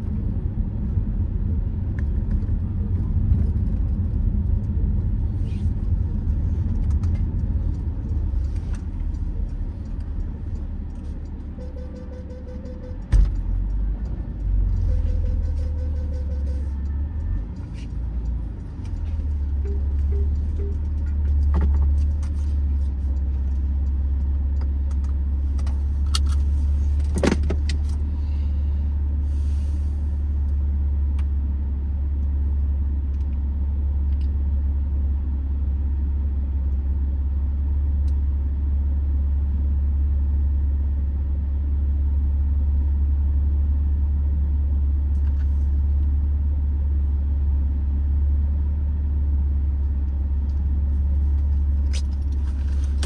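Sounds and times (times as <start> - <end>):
vehicle engine rumble: 0.0 - 53.0.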